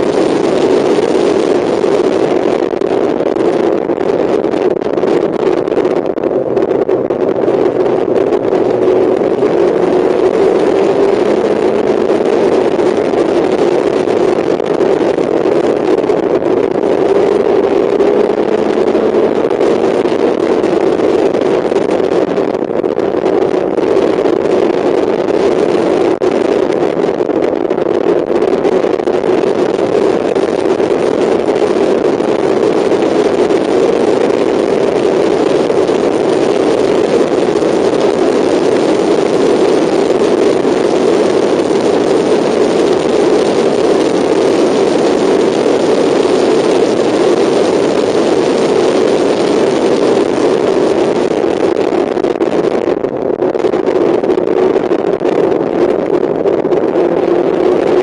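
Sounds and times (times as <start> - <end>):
race car engine at speed: 0.0 - 58.0.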